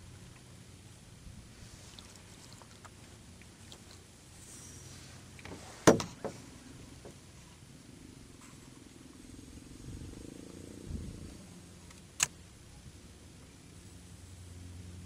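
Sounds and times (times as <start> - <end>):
faint low water noise: 0.0 - 15.0.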